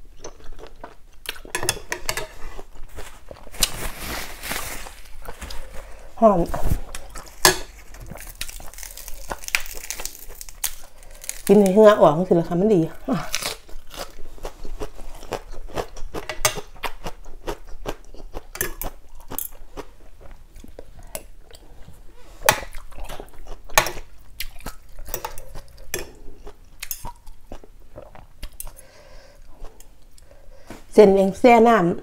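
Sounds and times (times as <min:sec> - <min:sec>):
crunchy chewing of lettuce: 0:02.3 - 0:12.0, 0:13.0 - 0:28.9.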